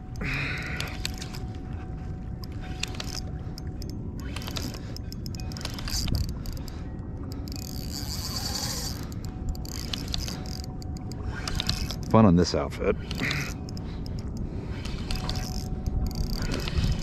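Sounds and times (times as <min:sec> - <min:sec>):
fishing reel drag buzzing: 0:00.1 - 0:12.2, 0:12.8 - 0:17.0.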